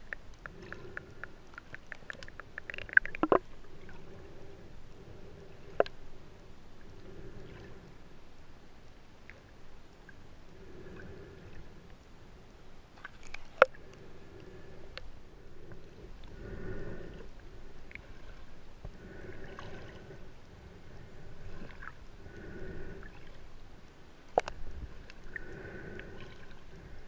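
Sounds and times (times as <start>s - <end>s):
muffled underwater rushing water: 0.0s - 27.0s.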